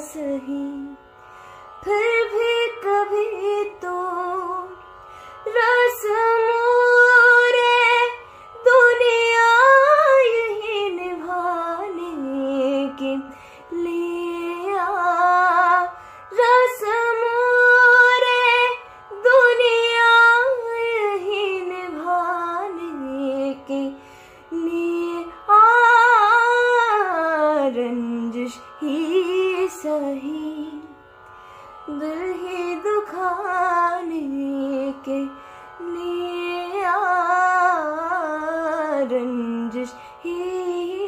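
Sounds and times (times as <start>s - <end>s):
woman singing: 0.0s - 1.0s, 1.8s - 31.0s, 31.9s - 41.0s.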